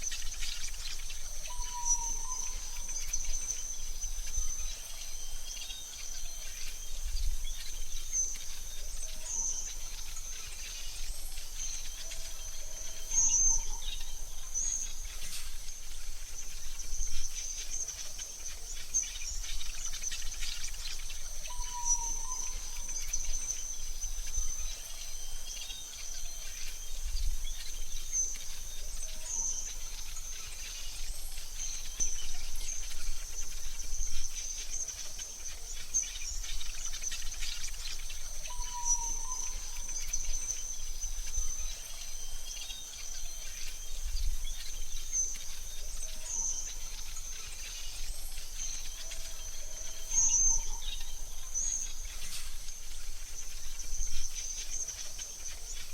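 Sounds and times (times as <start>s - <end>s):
soft hiss: 0.0s - 55.9s.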